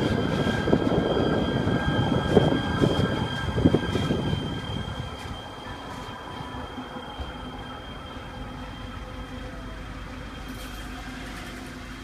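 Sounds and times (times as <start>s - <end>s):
light-rail train rumbling: 0.0s - 12.0s.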